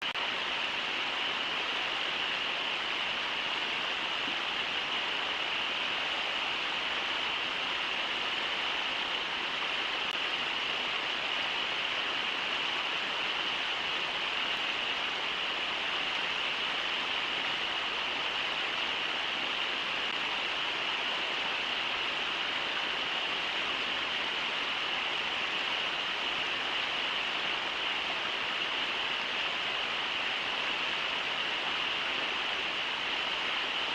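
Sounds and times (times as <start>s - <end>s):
river rushing over riffles: 0.0s - 33.9s.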